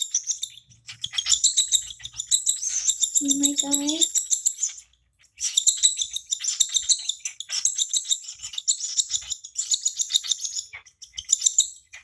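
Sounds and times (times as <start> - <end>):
baby cockatiel begging chirps: 0.0 - 12.0.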